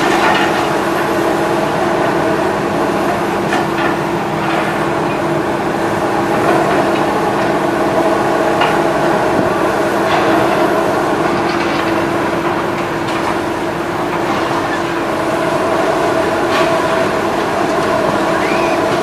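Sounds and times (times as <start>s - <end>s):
demolition machine engine drone: 0.0s - 19.0s.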